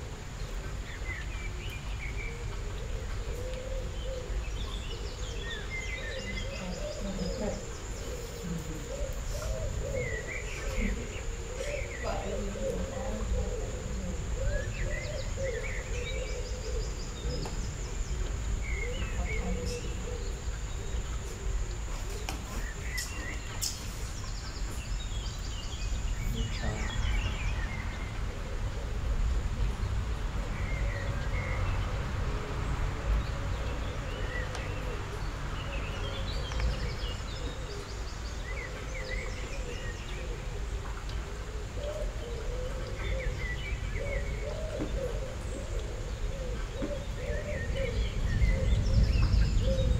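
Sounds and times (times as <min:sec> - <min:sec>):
low background noise: 0:00.0 - 0:49.9
low wavering cooing calls: 0:00.4 - 0:24.7, 0:30.6 - 0:49.9.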